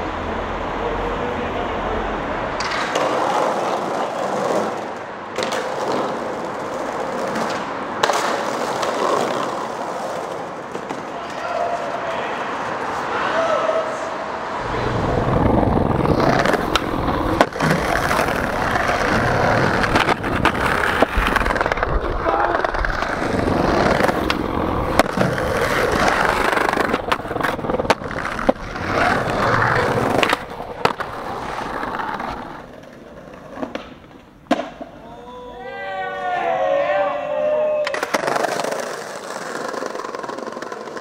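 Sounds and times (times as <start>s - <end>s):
skateboard wheels rolling: 0.0s - 41.0s
skateboard clacking on ground: 2.5s - 13.0s, 14.6s - 35.0s, 37.8s - 41.0s.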